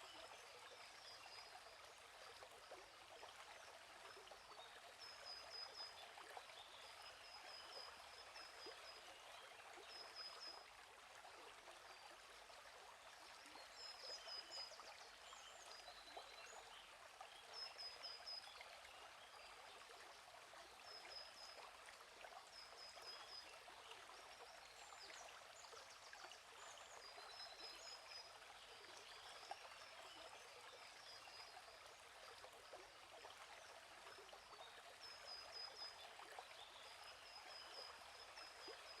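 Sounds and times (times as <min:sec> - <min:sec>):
gently flowing stream: 0:00.0 - 0:39.0.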